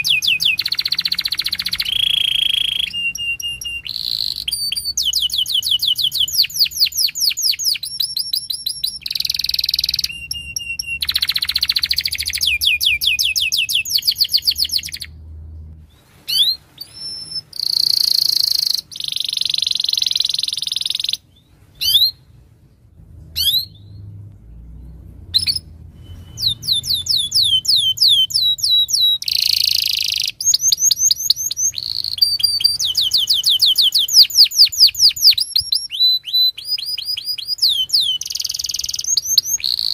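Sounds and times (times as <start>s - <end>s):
canary singing trills: 0.0s - 15.2s, 15.9s - 22.3s, 23.3s - 39.9s.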